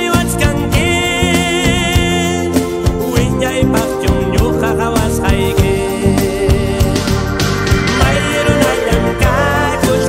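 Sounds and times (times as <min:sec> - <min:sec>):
steady drum beat: 0:00.4 - 0:10.0.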